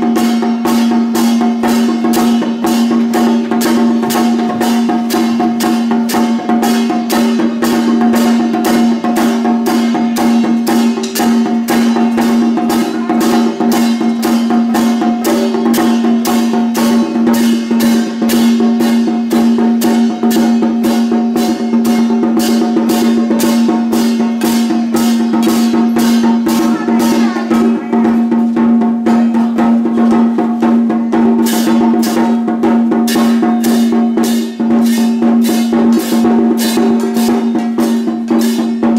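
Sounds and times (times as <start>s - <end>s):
drum troupe drumming fast: 0.0s - 38.9s.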